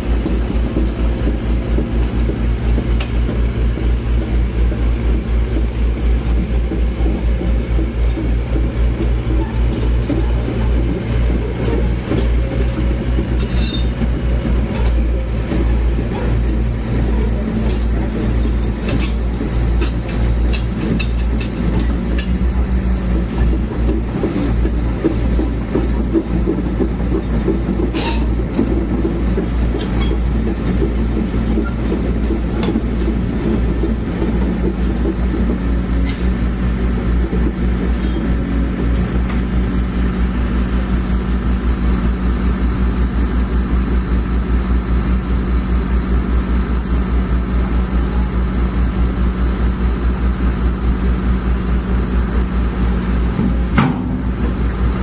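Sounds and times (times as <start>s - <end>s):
excavator diesel engine running: 0.0s - 55.0s
steel tracks clattering: 0.0s - 55.0s.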